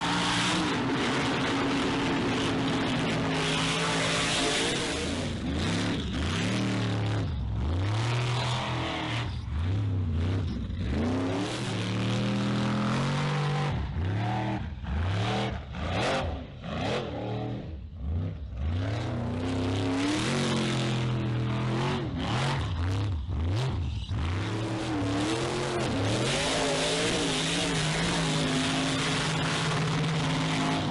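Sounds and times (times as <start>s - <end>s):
buggy engine revving: 0.0s - 30.9s.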